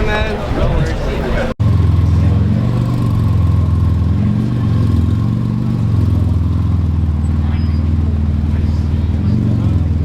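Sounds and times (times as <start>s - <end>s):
engine idling: 1.6s - 10.0s.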